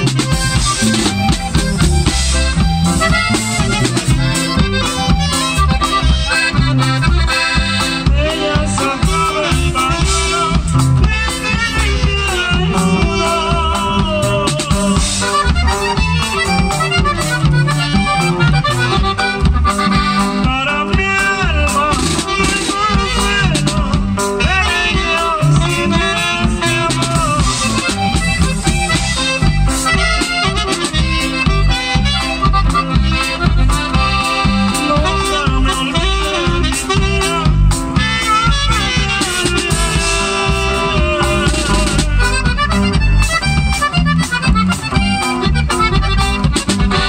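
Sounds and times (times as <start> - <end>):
button accordion: 0.0 - 47.0
drum kit steady beat: 0.0 - 47.0
saxophone: 0.0 - 47.0.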